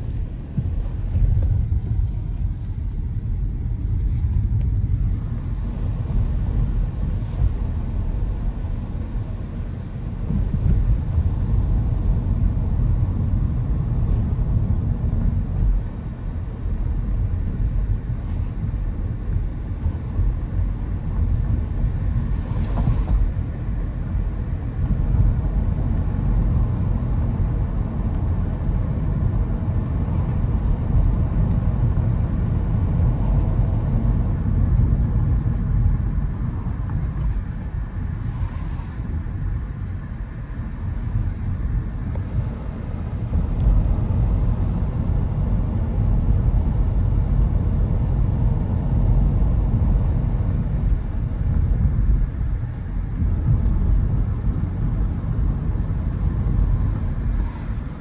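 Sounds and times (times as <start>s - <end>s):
car interior road and engine rumble: 0.0s - 58.0s.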